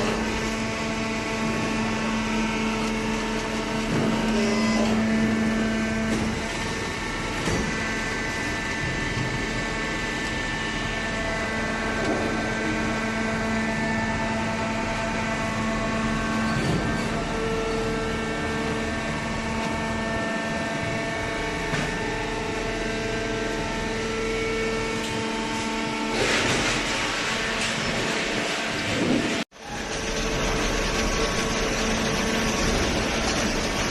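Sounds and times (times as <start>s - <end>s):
baler machine hum: 0.0s - 33.9s.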